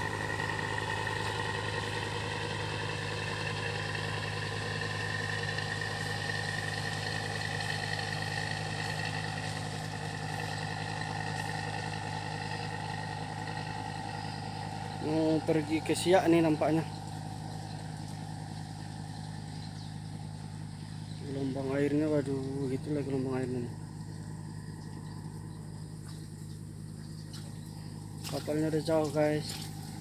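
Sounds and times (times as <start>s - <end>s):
engine drone with high whine: 0.0s - 30.0s.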